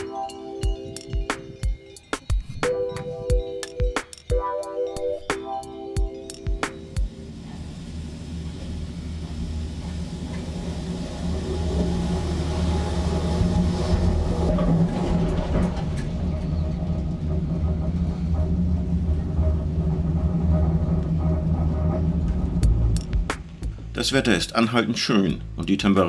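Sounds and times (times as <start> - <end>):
cable car rumble and hum: 0.0 - 26.0.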